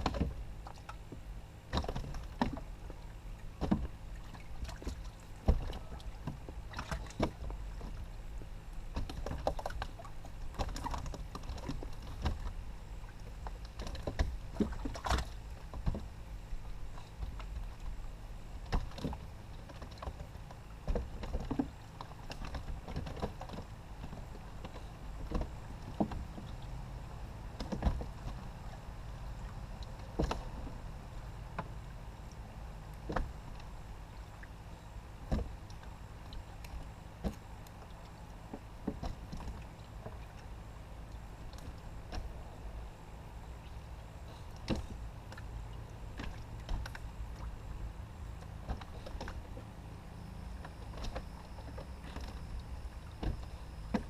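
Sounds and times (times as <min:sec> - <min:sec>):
boat engine low rumble: 0:00.0 - 0:54.0.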